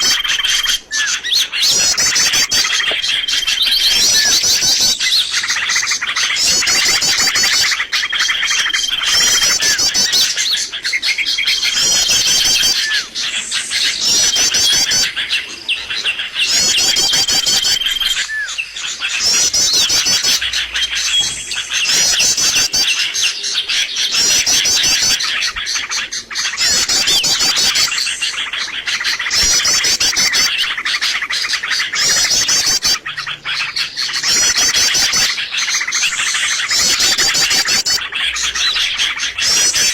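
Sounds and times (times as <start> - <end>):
bird whistles: 0.0 - 39.9
songbirds chirping and twittering: 0.0 - 39.9.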